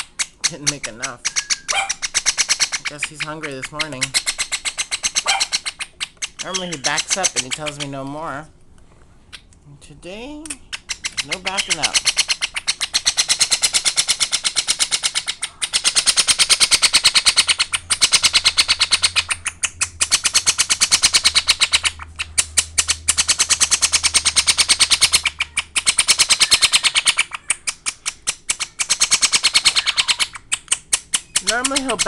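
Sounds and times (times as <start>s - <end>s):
parrot chick begging call: 0.1s - 8.0s, 10.6s - 32.0s.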